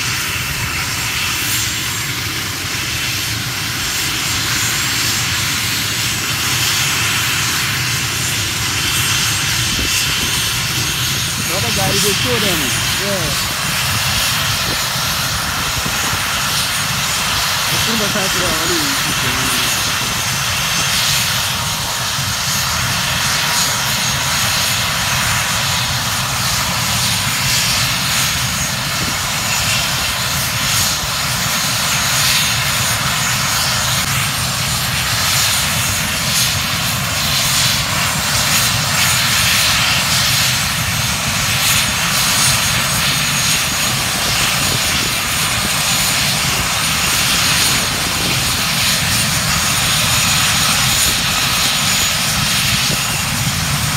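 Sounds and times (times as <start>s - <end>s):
helicopter engine and rotor: 0.0s - 53.9s.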